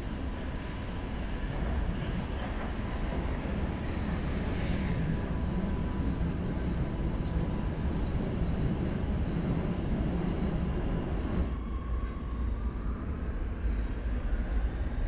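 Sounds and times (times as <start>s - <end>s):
train wheels rumbling on rails: 0.0s - 12.7s.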